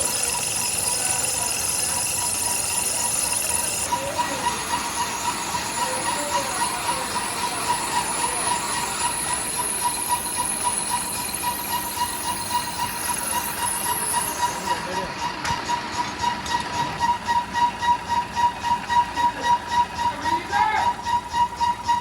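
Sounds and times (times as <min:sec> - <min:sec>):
machinery hissing: 0:00.0 - 0:22.0
pulsing machine whine: 0:00.0 - 0:22.0.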